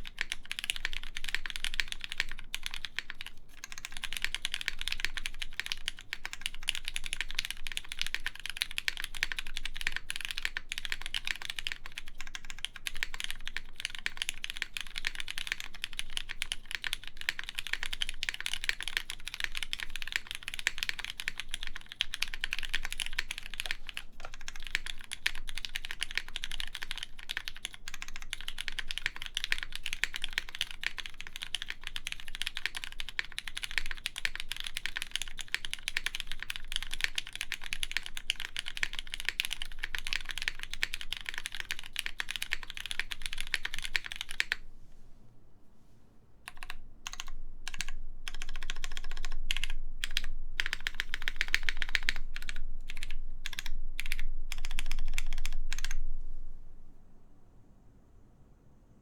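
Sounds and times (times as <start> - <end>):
fast mechanical keyboard typing: 0.0 - 44.6, 46.5 - 56.0.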